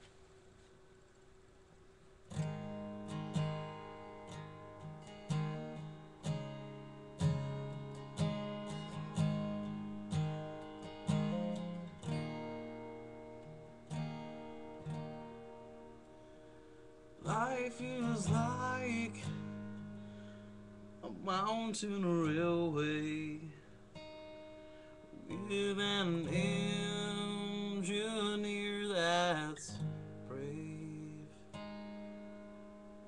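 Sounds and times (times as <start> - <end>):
acoustic guitar: 2.2 - 33.0.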